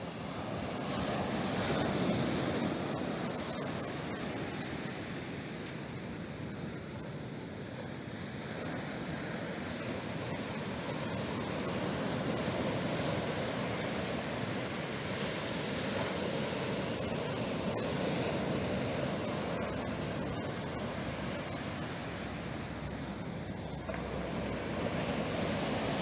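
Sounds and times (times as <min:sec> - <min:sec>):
surf breaking on a beach: 0:00.0 - 0:26.0.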